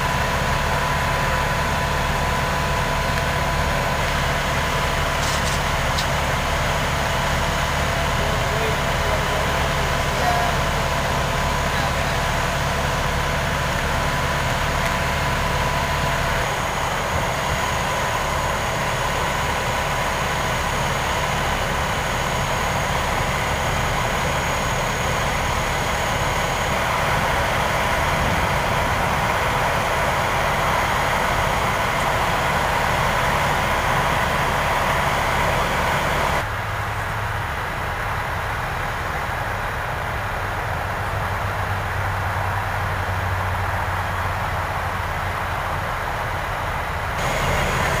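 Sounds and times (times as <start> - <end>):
vehicle engines idling: 0.0 - 48.0.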